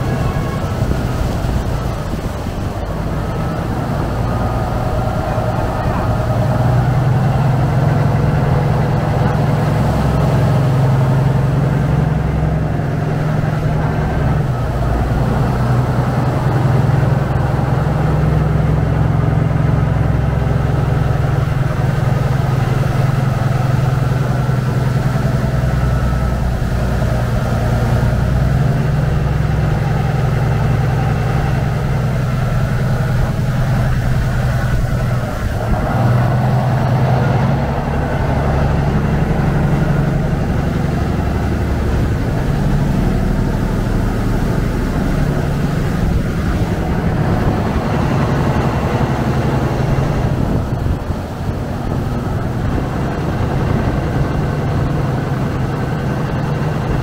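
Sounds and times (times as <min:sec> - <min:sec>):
boat diesel engine drone: 0:00.0 - 0:57.0
churning water: 0:00.0 - 0:57.0.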